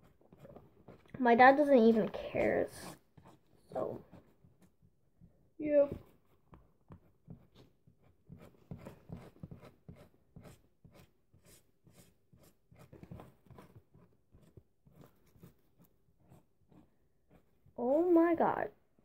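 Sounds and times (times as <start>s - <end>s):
marker scratching on hair: 0.0s - 18.5s.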